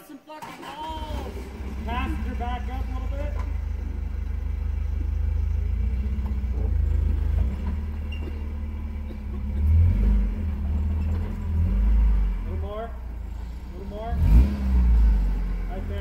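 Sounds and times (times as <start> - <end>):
truck engine rumbling under load: 0.0 - 16.0.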